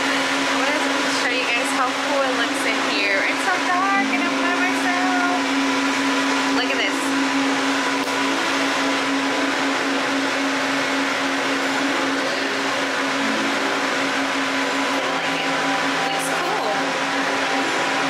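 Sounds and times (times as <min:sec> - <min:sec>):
monorail electric motor hum: 0:00.0 - 0:18.0.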